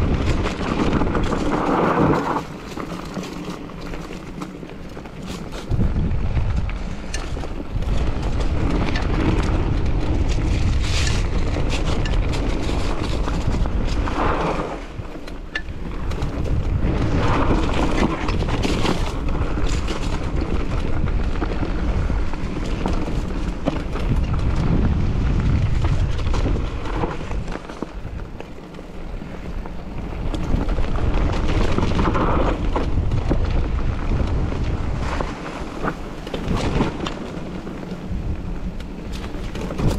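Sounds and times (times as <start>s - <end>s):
bike clicks and rattles: 0.0s - 39.9s
wind buffeting microphone: 0.0s - 39.9s.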